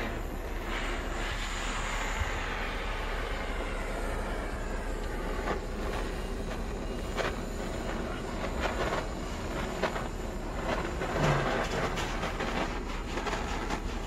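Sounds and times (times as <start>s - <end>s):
gas torch flame hissing: 0.0s - 14.0s.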